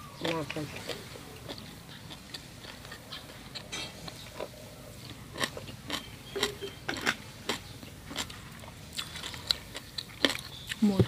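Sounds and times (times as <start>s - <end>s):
person chewing crispy food: 0.7s - 11.0s.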